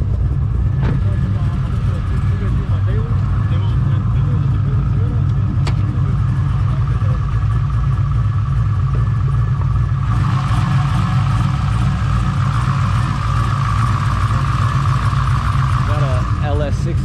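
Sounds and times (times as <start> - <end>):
vee eight engine idling: 0.0 - 17.0.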